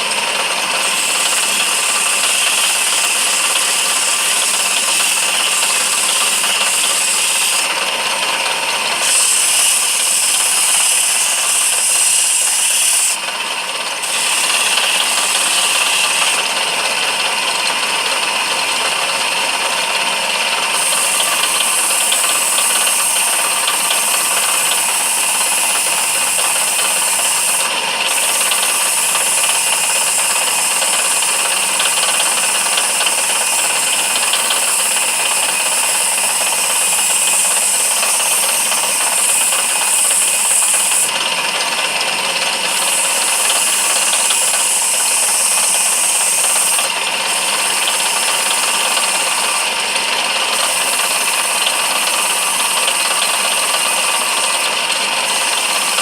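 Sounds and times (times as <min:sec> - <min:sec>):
high hiss of spinning wood: 0:00.0 - 0:56.0
lathe motor running: 0:00.0 - 0:56.0.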